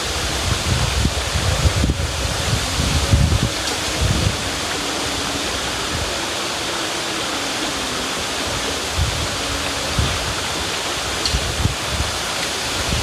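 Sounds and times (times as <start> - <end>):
river water rushing: 0.0 - 13.0
wind gusts on microphone: 0.0 - 13.0.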